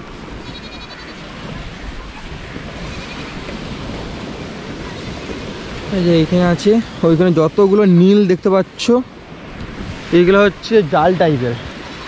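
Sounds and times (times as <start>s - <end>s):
sea surf washing onto beach: 0.0s - 12.0s.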